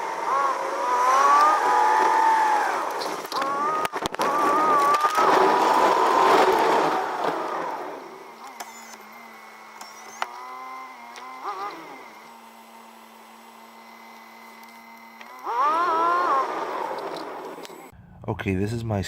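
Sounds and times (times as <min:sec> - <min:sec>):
starter motor whining: 0:00.0 - 0:17.9.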